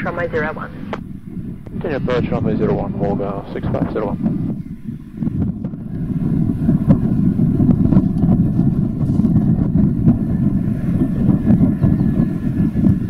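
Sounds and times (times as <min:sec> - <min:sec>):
faint high whine: 0:00.0 - 0:13.0
jet engines rumbling: 0:00.0 - 0:13.0
wind buffeting microphone: 0:00.0 - 0:13.0.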